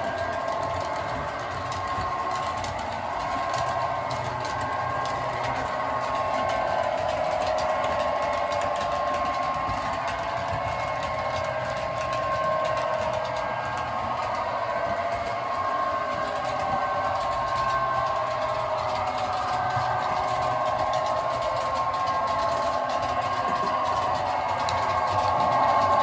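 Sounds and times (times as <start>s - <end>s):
wheels rolling on track: 0.0s - 26.0s.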